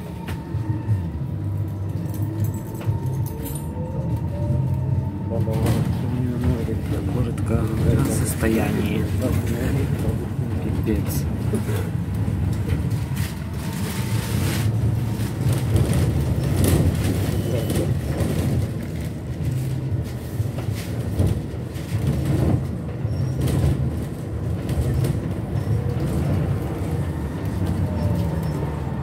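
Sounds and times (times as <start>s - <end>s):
bus rumbling on road: 0.0s - 29.0s.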